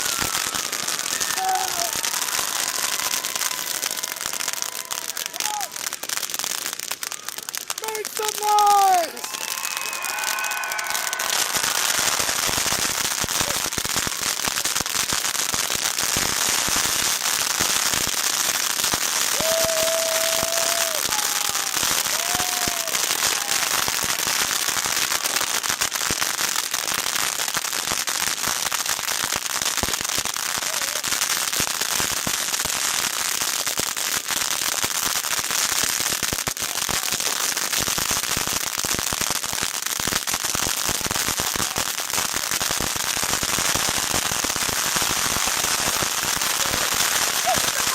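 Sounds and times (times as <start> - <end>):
fireworks crackling: 0.0 - 47.9.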